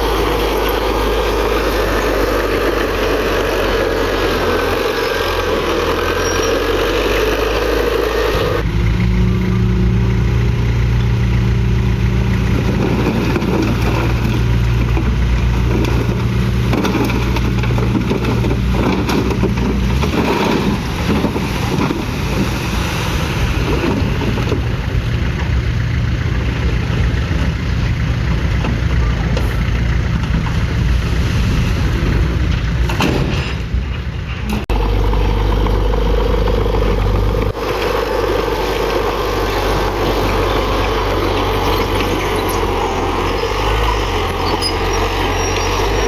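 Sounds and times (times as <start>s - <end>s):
heavy diesel machinery under load: 0.0s - 46.0s.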